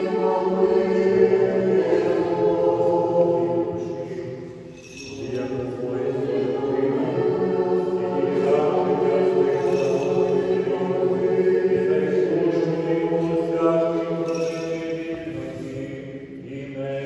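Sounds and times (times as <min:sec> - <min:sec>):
choir chanting: 0:00.0 - 0:04.6, 0:05.2 - 0:17.0.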